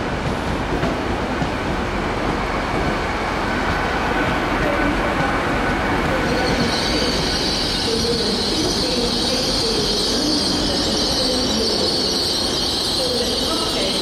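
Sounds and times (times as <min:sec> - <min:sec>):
train wheels rolling on rails: 0:00.0 - 0:14.0.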